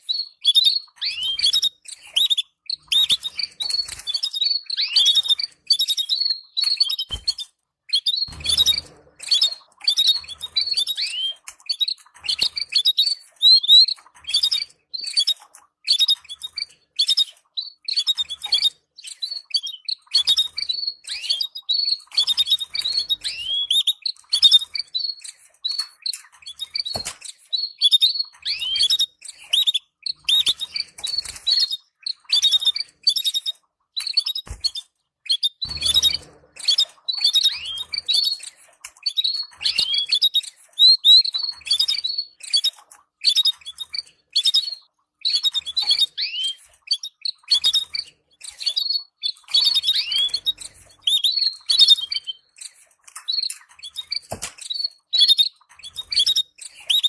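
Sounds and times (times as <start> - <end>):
canaries chirping and twittering: 0.0 - 57.0.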